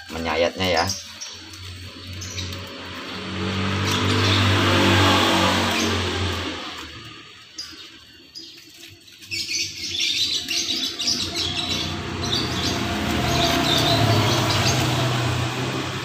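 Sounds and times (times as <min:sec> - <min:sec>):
small birds chirping rapidly: 0:00.1 - 0:16.0.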